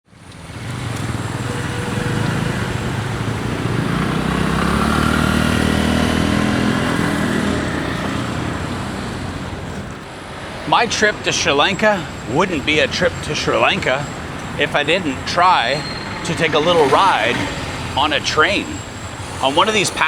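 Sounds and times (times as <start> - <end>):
vehicle engine passing: 0.1 - 20.0.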